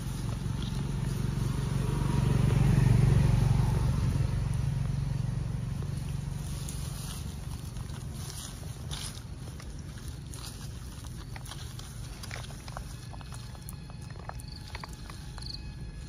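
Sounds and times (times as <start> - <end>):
vehicle engine droning past: 0.0 - 16.0.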